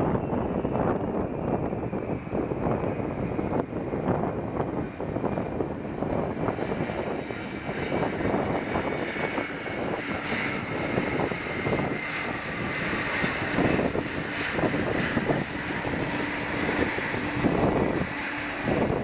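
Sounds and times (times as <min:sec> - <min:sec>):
jet engines: 0:00.0 - 0:19.0
wind buffeting microphone: 0:00.0 - 0:19.0.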